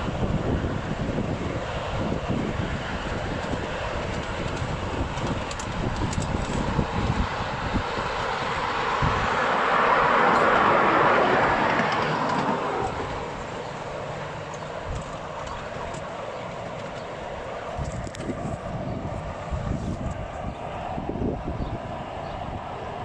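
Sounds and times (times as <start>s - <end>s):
broad rushing noise: 0.0s - 23.0s
train wheels rumbling on rails: 0.0s - 23.0s.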